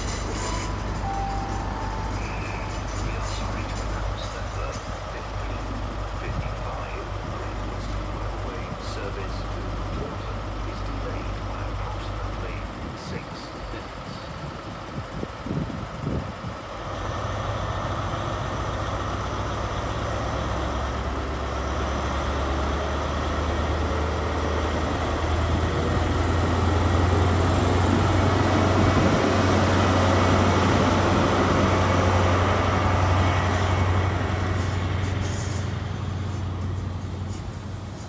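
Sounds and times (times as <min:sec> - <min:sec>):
train diesel engine droning: 0:00.0 - 0:38.0.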